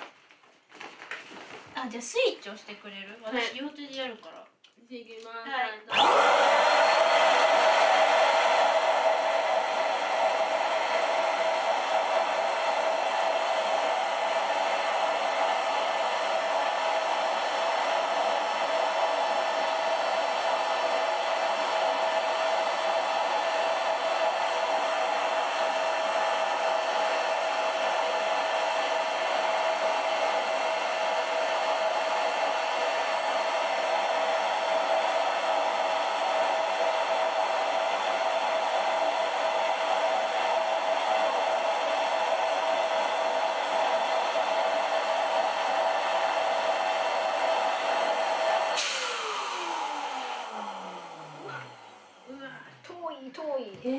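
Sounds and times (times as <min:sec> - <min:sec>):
electric air pump whirring: 0:05.9 - 0:52.4.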